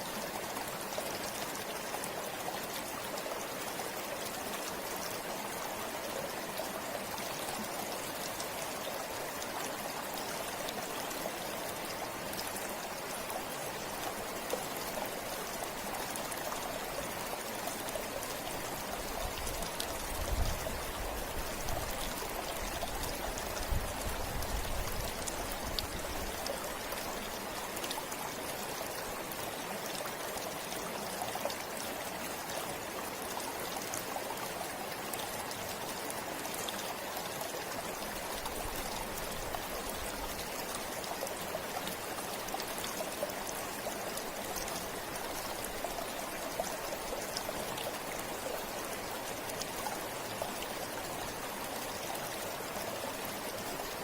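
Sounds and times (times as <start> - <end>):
river rushing and babbling: 0.0 - 54.0.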